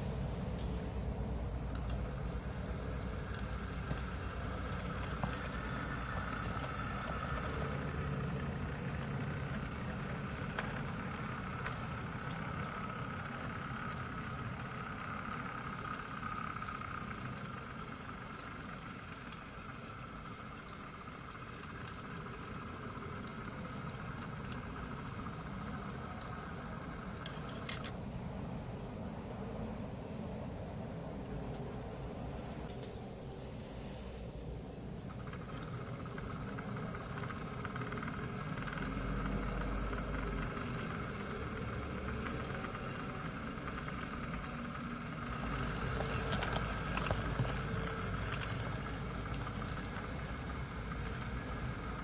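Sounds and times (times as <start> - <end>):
faint whine: 0.0 - 52.0
model train diesel engine rumble: 0.0 - 52.0.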